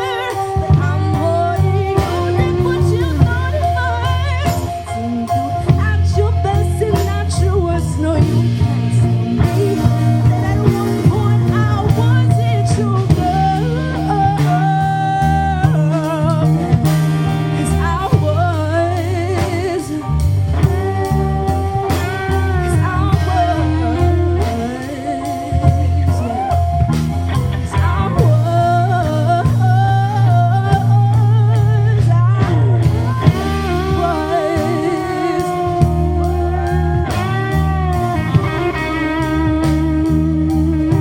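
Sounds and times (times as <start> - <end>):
deep bass and guitar: 0.0 - 41.0
woman singing with vibrato: 0.0 - 41.0.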